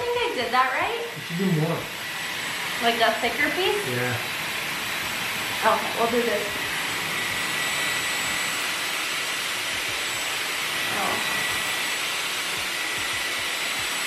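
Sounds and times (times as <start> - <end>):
hair styler blowing air: 0.0 - 14.0.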